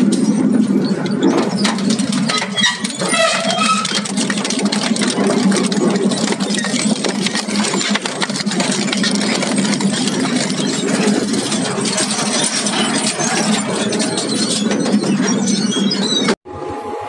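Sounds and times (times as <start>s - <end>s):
shredder machine hum: 1.4s - 15.5s.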